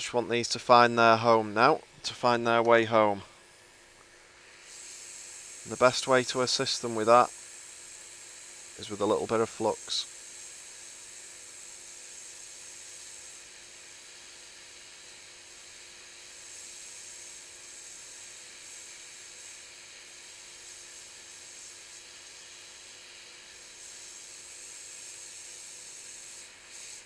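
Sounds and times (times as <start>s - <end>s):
hot air station hissing: 4.3s - 27.0s.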